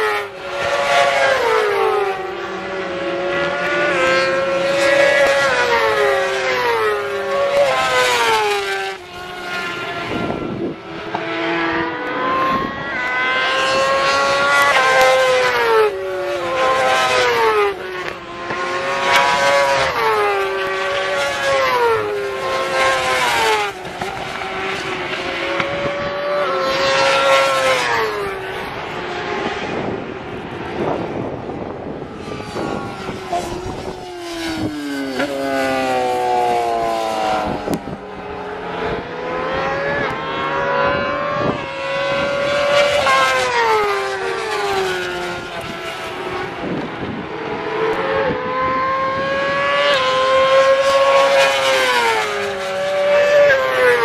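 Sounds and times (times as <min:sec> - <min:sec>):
racing motorcycles passing: 0:00.0 - 0:54.0.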